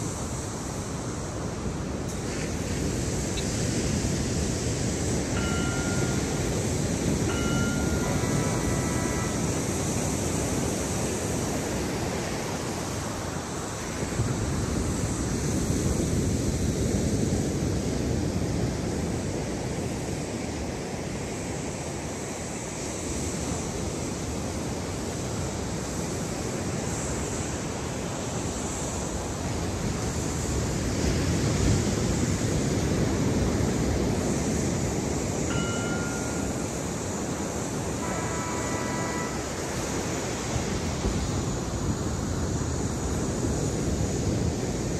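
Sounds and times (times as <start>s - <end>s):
ocean surf: 0.0s - 44.9s.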